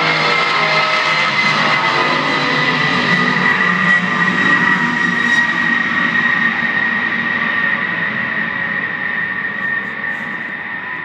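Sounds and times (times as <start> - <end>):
aircraft engine rush with whine: 0.0 - 11.0.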